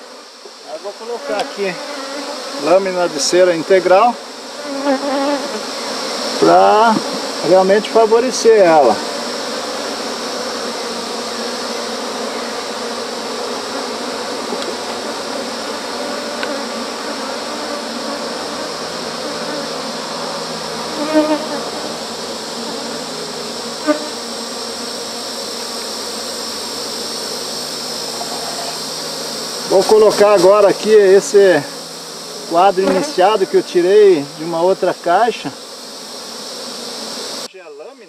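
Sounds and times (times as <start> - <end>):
honeybees buzzing: 0.0 - 38.0.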